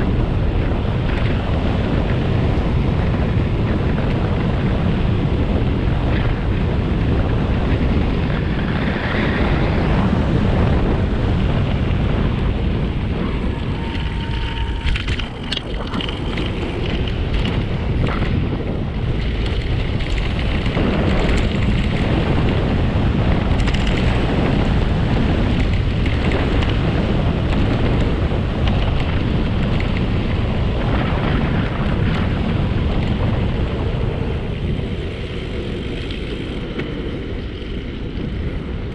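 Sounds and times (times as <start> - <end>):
tyres rumbling on road: 0.0 - 38.9
wind buffeting microphone: 0.0 - 38.9.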